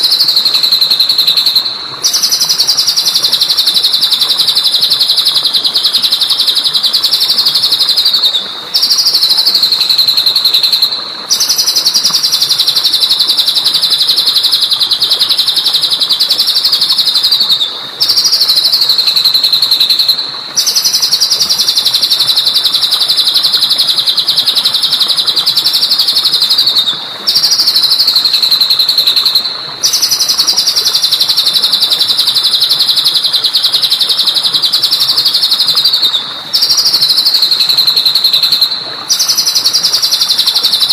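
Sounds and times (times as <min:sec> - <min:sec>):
recorded songbird trill: 0:00.0 - 0:40.9.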